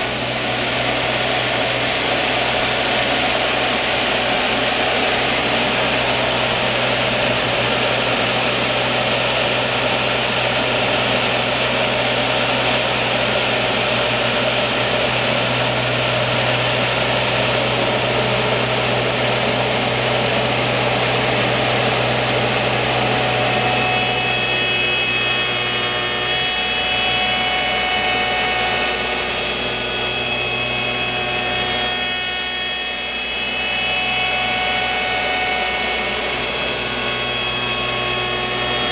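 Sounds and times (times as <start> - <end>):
high whine: 0.0 - 38.9
machine cutting wood: 0.0 - 38.9.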